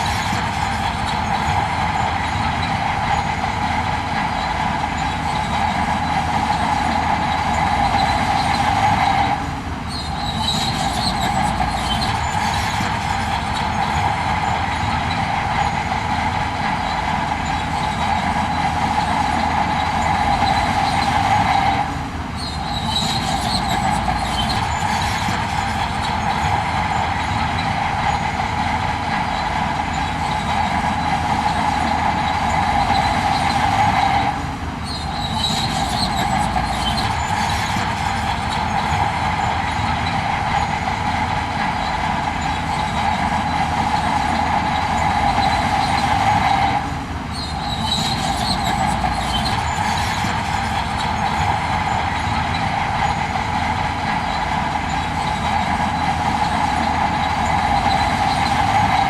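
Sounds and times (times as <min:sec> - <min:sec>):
heavy machinery working: 0:00.0 - 0:59.0.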